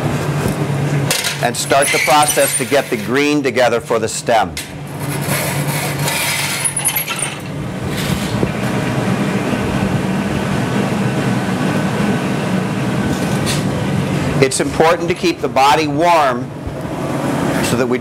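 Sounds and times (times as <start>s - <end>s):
furnace and burners roaring: 0.0s - 18.0s.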